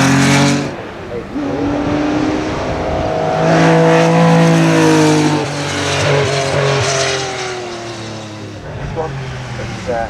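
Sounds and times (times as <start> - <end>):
race car engine accelerating past: 0.0 - 10.0.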